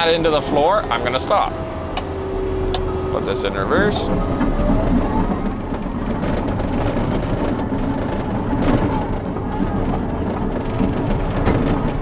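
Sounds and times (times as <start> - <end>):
bulldozer engine running: 0.0 - 12.0.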